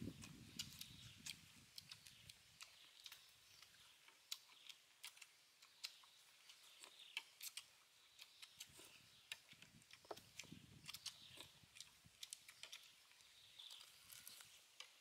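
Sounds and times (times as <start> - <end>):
people chewing meat off bones: 0.0 - 15.0.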